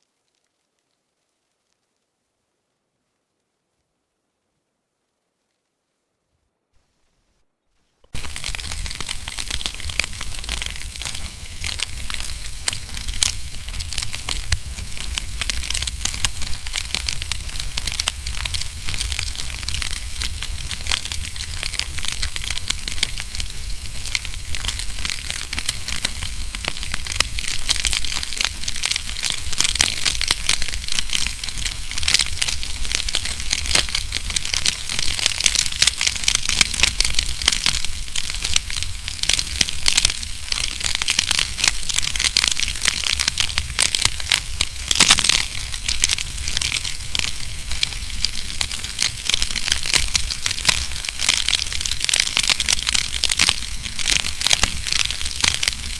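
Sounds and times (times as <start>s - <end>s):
wood fire crackling: 8.0s - 55.9s.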